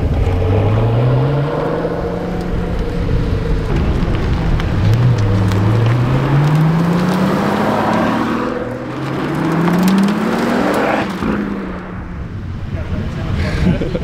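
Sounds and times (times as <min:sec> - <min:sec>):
car engine accelerating: 0:00.0 - 0:13.2.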